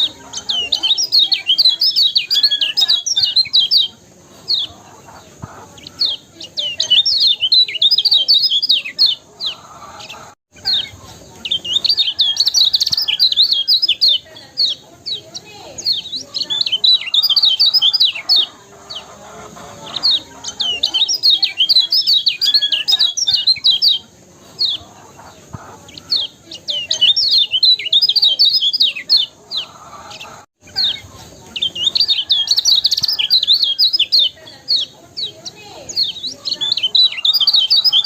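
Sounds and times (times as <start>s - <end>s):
bird singing high sweeping chirps: 0.0s - 4.8s, 5.8s - 19.1s, 19.7s - 24.9s, 26.0s - 38.0s.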